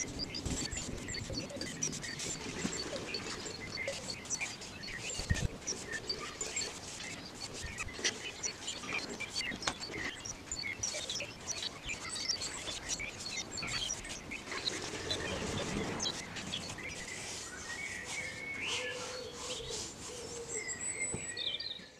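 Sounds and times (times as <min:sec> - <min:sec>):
brush scratching on wood: 0:00.0 - 0:21.4
small birds chirping: 0:00.0 - 0:21.9.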